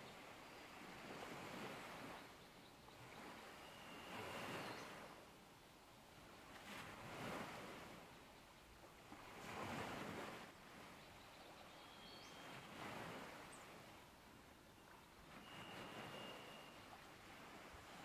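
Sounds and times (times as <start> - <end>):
faint ocean surf: 0.0 - 18.0.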